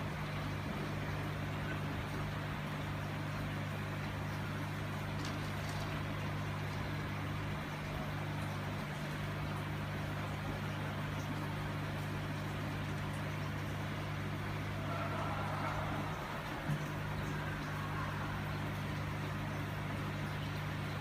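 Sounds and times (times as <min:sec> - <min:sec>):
aquarium pump humming: 0:00.0 - 0:21.0.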